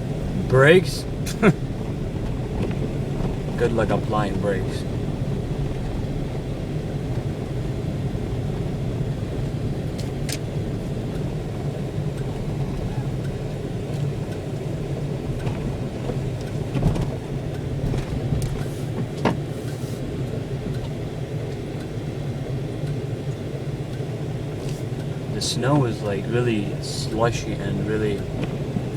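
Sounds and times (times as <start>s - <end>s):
car engine and tyre rumble: 0.0s - 28.9s.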